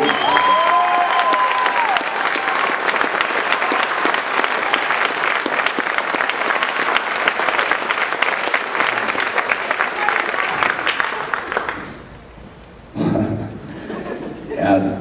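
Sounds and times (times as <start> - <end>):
crowd applauding: 0.0 - 12.1.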